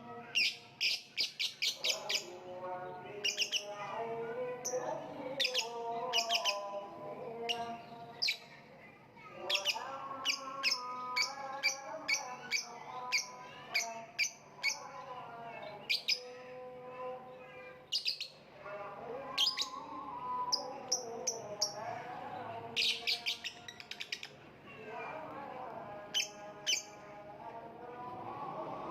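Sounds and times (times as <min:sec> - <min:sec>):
low warbling chatter: 0:00.0 - 0:28.9.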